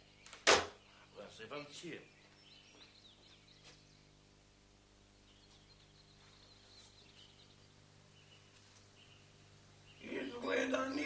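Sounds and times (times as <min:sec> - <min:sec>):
faint bird chirps: 0:00.0 - 0:04.3, 0:05.1 - 0:11.0
faint steady hum: 0:00.0 - 0:11.0.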